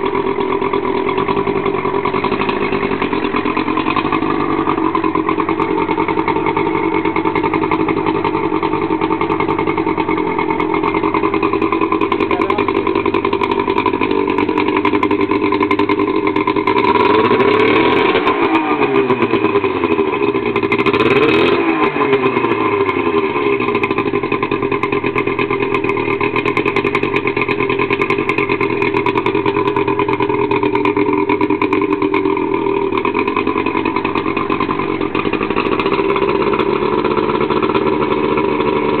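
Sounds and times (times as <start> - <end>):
outboard motor running: 0.0 - 39.0.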